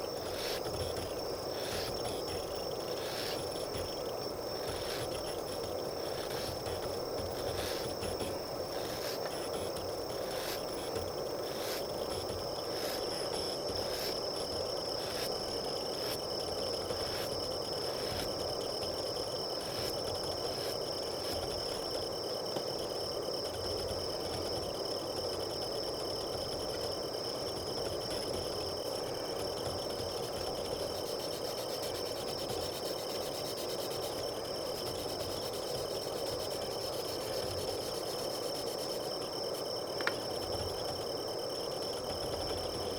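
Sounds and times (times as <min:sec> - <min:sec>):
crickets chirping: 0:00.0 - 0:42.9
regular ticks: 0:00.0 - 0:42.9.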